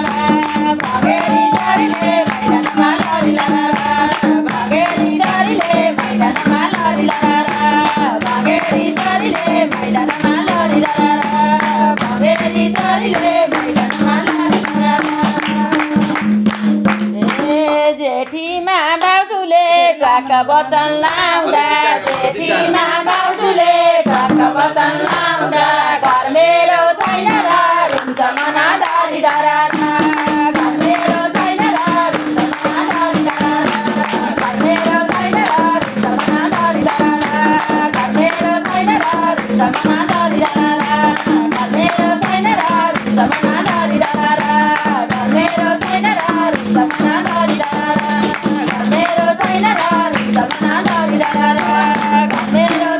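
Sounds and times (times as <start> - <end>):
group singing folk song: 0.0 - 17.9, 18.9 - 52.9
hand drum: 0.0 - 18.0, 21.1 - 52.9
hand-clapping: 0.0 - 19.4, 21.0 - 52.9.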